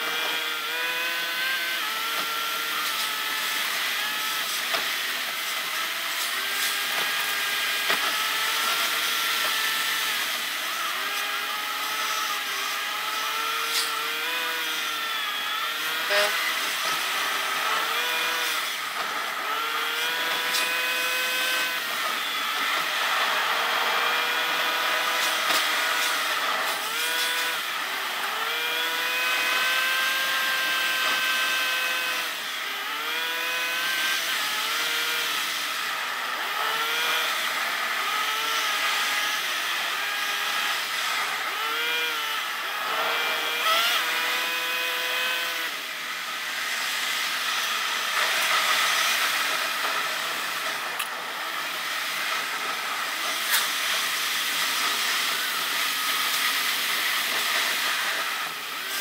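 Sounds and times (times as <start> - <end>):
high-pitched car engine whine: 0.0 - 59.0.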